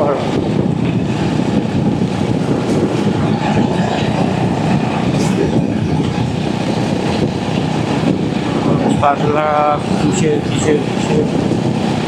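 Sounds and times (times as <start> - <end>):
wind and road noise rumble: 0.0 - 12.0
wind buffeting microphone: 0.0 - 12.0.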